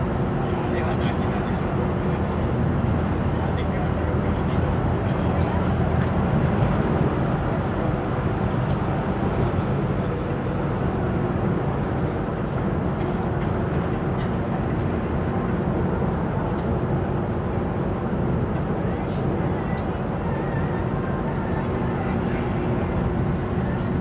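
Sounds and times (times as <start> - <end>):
coach engine and road rumble: 0.0 - 24.0.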